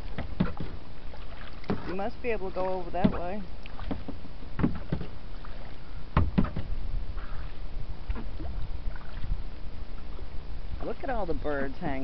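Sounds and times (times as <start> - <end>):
kayak paddle splashing: 0.0 - 12.0
steady low rumble: 0.0 - 12.0.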